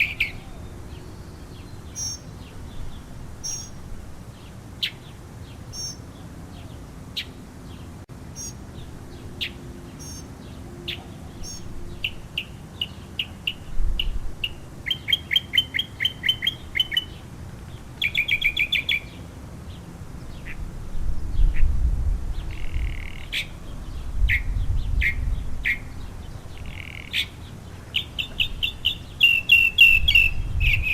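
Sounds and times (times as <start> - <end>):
mockingbird singing: 0.0 - 3.8, 4.4 - 20.6, 22.4 - 30.9.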